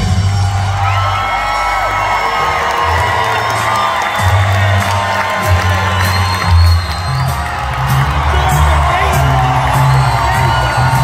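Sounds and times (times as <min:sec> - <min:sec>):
crowd cheering: 0:00.0 - 0:11.0.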